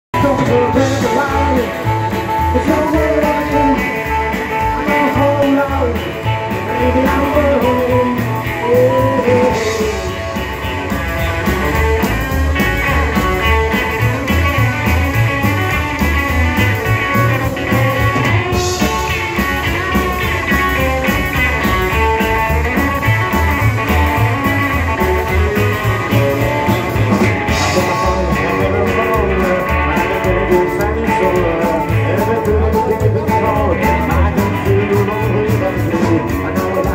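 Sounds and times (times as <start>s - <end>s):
rock and roll band playing: 0.0s - 36.9s
slapped upright bass: 0.2s - 36.9s.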